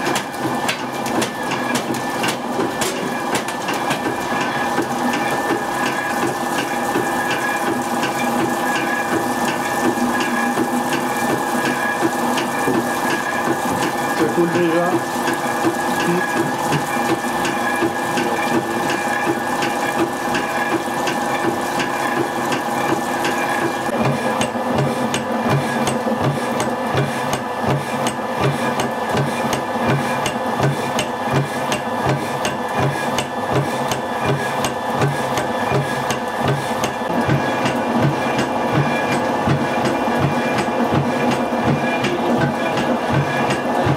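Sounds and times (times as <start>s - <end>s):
hydraulic pump humming: 0.0s - 43.9s.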